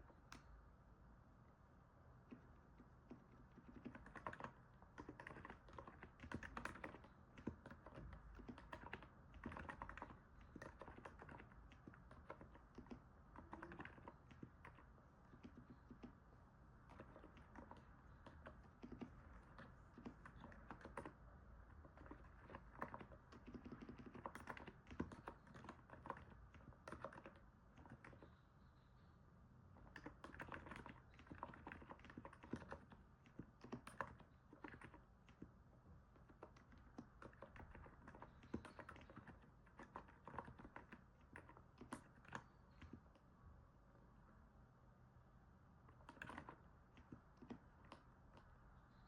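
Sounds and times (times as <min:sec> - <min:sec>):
soft keyboard typing: 0:00.0 - 0:00.8, 0:02.1 - 0:29.0, 0:29.7 - 0:43.4, 0:45.8 - 0:49.0.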